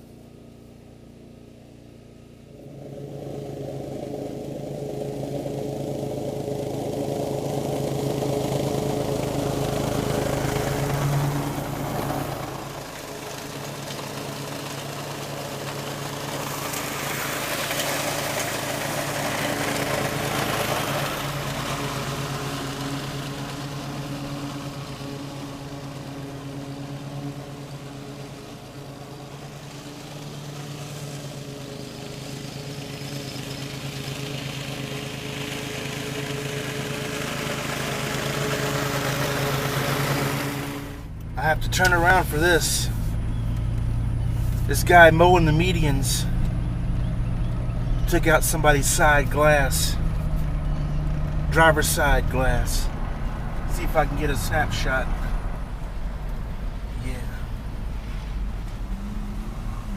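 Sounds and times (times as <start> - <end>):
rushing road noise: 0.0 - 59.9
vehicle engine running: 0.0 - 59.9.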